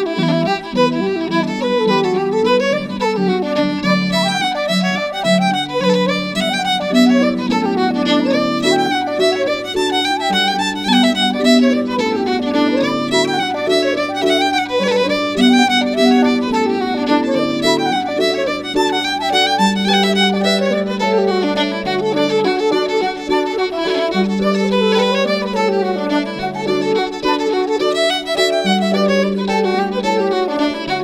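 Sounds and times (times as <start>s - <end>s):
violin melody: 0.0s - 31.0s.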